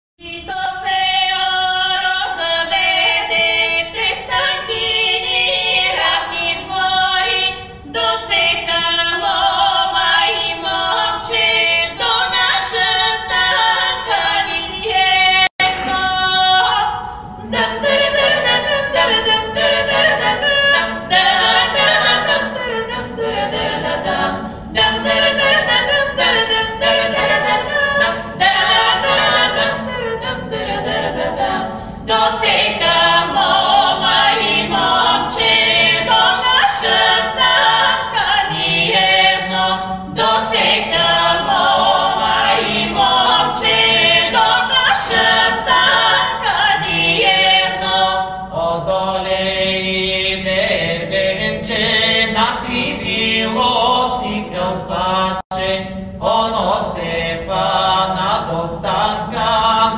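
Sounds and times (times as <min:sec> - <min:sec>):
vocal ensemble singing in harmony: 0:00.2 - 0:59.9.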